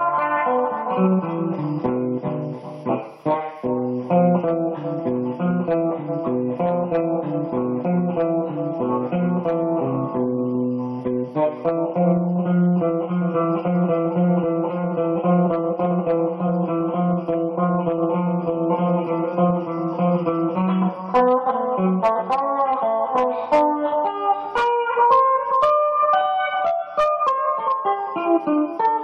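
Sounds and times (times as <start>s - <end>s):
solo guitar playing: 0.0s - 29.0s.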